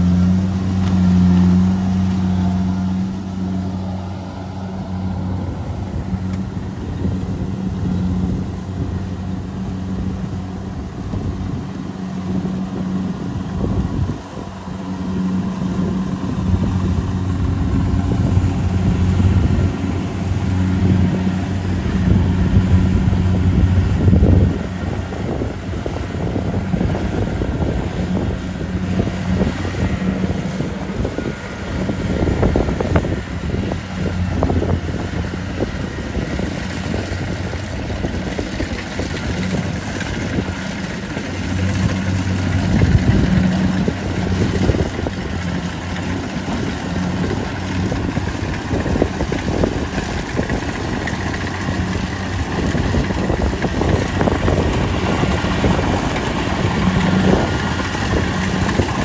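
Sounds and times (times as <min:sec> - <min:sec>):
cutter and threshing machinery: 0:00.0 - 0:59.0
diesel engine hum: 0:00.0 - 0:59.0.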